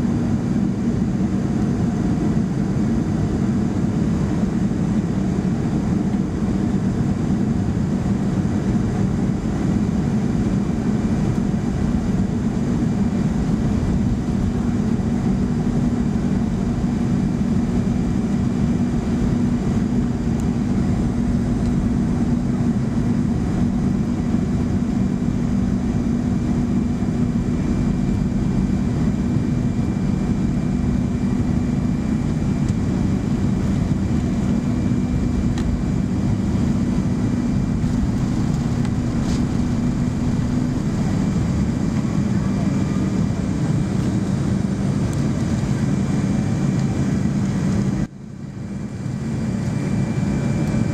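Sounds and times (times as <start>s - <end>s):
jet engines in aircraft cabin: 0.0s - 50.9s.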